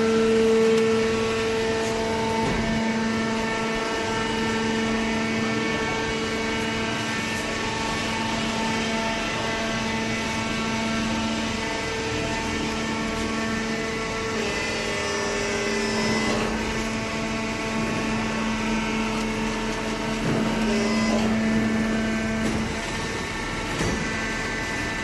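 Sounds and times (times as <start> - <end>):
hydraulic pump hum and whine: 0.0 - 25.0.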